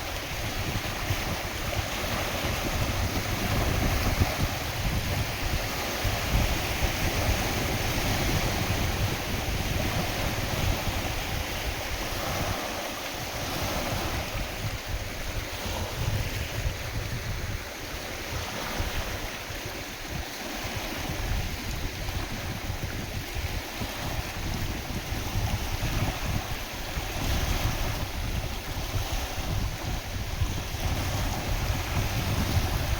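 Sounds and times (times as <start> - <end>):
lake waves splashing: 0.0 - 32.9
wind buffeting microphone: 0.0 - 32.9.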